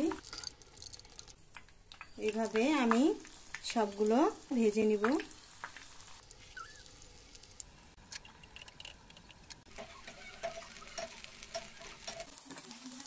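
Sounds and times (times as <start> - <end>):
deep-frying sizzle with pops: 0.0 - 13.0.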